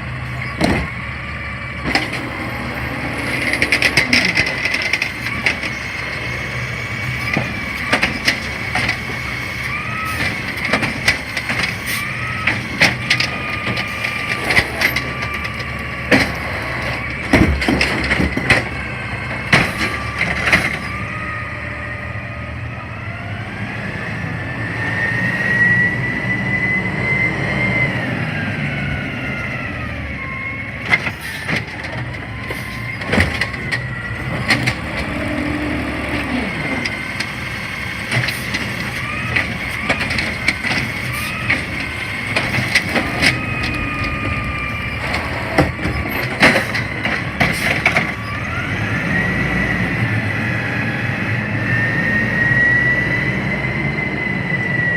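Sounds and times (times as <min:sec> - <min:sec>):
garbage truck whining: 0:00.0 - 0:54.9.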